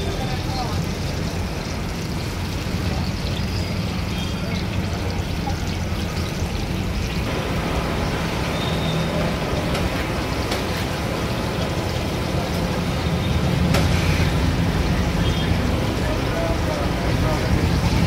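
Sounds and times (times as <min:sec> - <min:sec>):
fritters sizzling in hot oil: 0:00.0 - 0:18.0.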